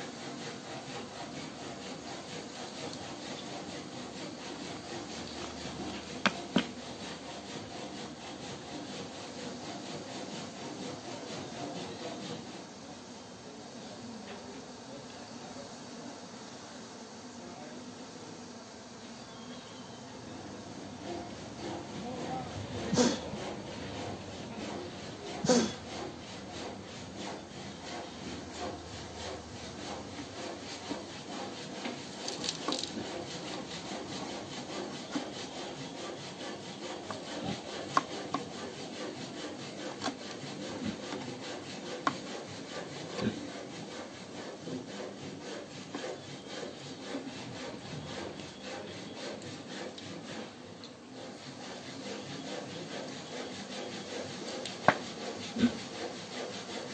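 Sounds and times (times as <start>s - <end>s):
rasping and scraping on wood: 0.0s - 12.9s, 21.0s - 56.9s.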